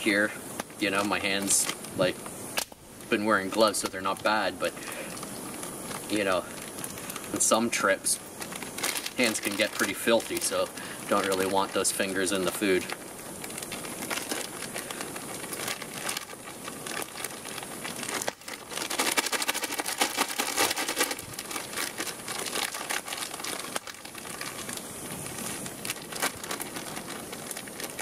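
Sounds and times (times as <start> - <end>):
plastic bag crinkling: 0.0 - 2.3, 3.0 - 28.0.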